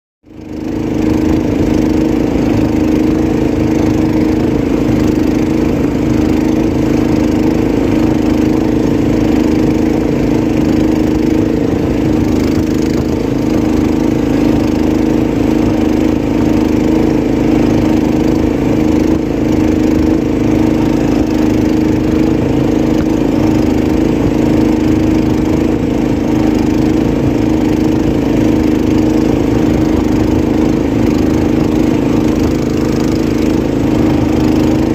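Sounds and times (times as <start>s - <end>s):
small engine running steadily: 0.2s - 34.9s.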